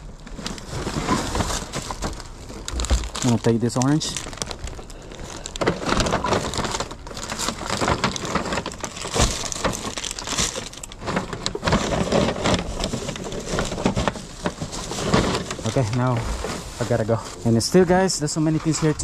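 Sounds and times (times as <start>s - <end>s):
plastic bags rustling and crinkling: 0.0s - 19.0s.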